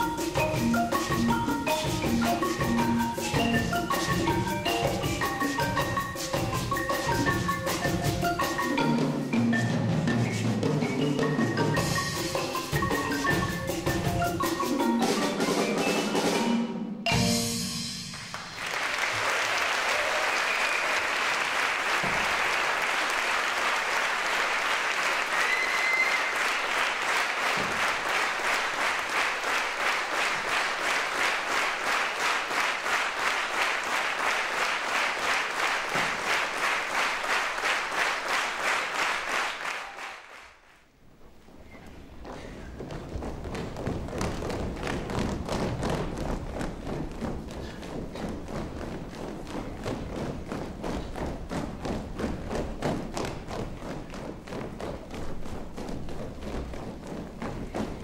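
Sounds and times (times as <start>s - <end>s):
audience rhythmic clapping: 0.0s - 9.6s, 10.3s - 15.8s, 18.0s - 41.0s, 42.6s - 58.0s.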